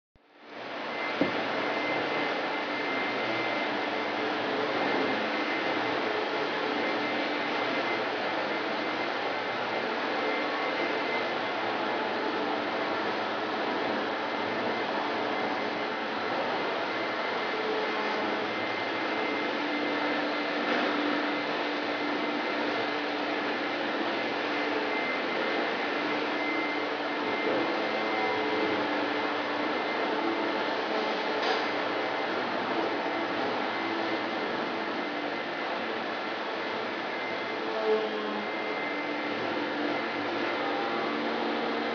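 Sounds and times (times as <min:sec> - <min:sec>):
faint high whine: 0:00.2 - 0:41.9
mechanical hum and hiss: 0:00.2 - 0:41.9.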